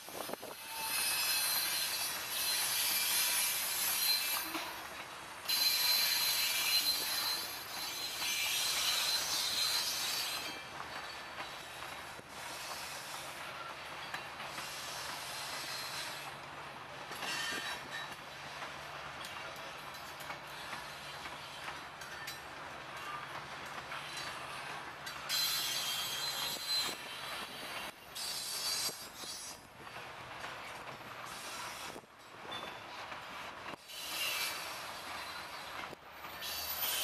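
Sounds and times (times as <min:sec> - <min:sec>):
freight cars rolling: 0:00.0 - 0:37.0
train wheels squealing on rails: 0:00.0 - 0:37.0.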